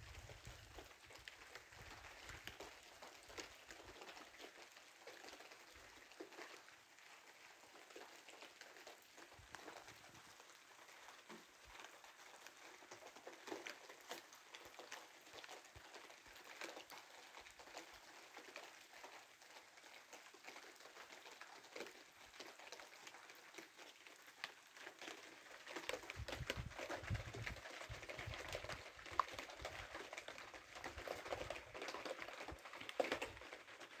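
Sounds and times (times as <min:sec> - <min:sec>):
rain patter: 0:00.0 - 0:34.0.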